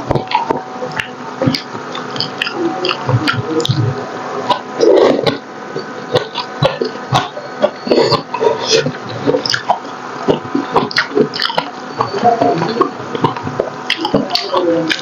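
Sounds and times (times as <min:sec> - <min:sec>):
chewing and lip smacking: 0:00.1 - 0:15.0.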